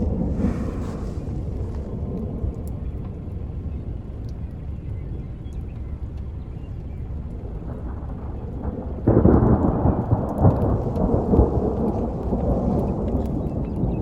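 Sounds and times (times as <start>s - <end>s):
thunder clap and rumble: 0.0s - 14.0s.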